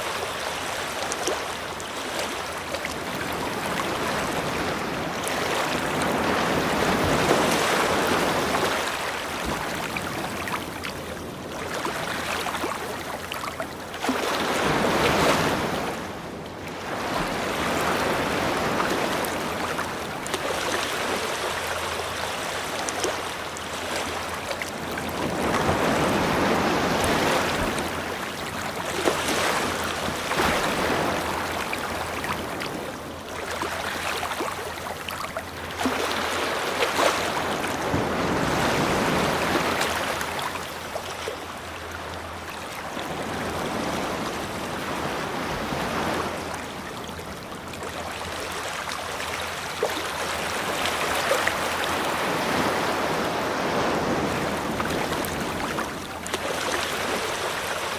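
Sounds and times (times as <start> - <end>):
ocean surf breaking on a beach: 0.0 - 57.9.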